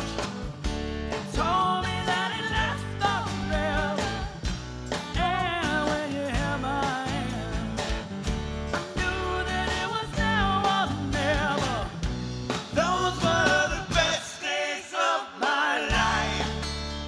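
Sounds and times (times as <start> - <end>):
strummed guitar: 0.0 - 14.2, 15.9 - 17.0
bass guitar: 0.0 - 14.3, 15.9 - 17.0.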